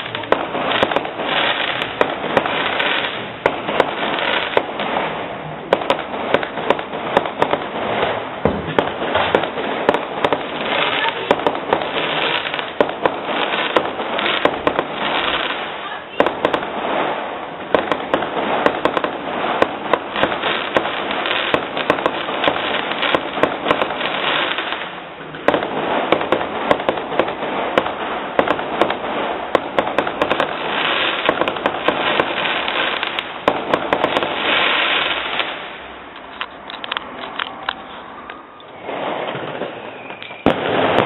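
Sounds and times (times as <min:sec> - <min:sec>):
fireworks crackling and banging: 0:00.0 - 0:41.0.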